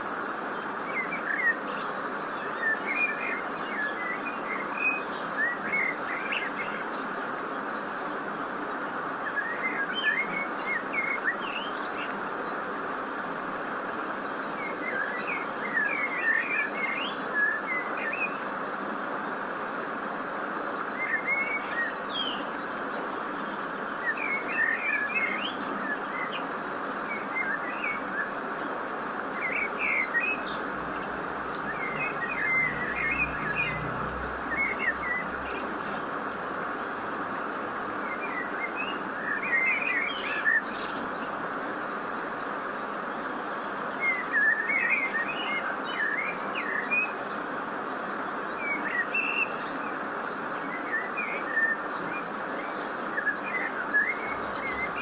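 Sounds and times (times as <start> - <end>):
small birds chirping: 0.0 - 55.0
waterfall rushing: 0.0 - 55.0.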